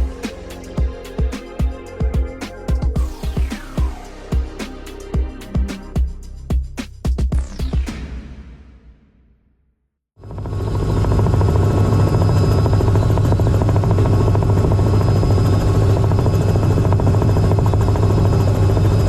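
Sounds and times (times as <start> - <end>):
helicopter rotor and turbine: 0.0 - 8.3, 10.2 - 19.0.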